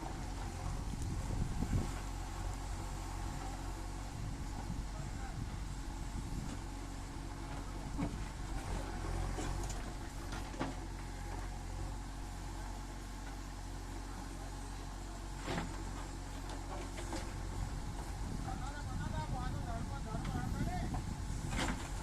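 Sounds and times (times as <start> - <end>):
construction machine engine running: 0.0 - 22.0.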